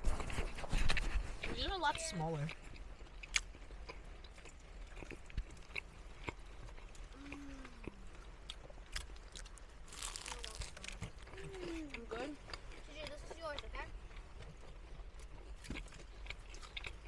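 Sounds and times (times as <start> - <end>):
chewing crispy chicken crunches: 2.4 - 17.0.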